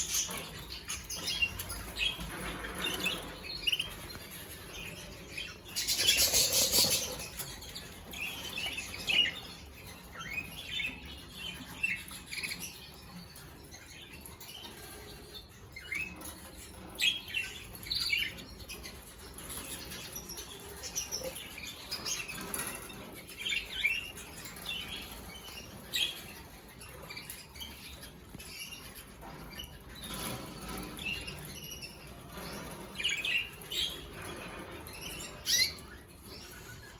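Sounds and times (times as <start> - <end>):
canaries chirping: 0.0 - 36.9.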